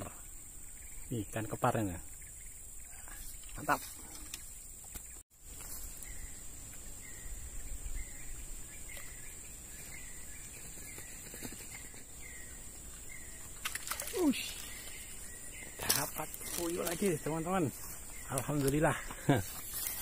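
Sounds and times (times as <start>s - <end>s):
high-pitched insect buzz: 0.0s - 18.8s.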